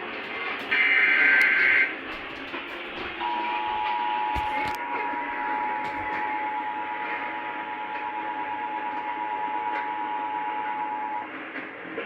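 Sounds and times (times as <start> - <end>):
two-tone alarm: 0.6 - 11.3.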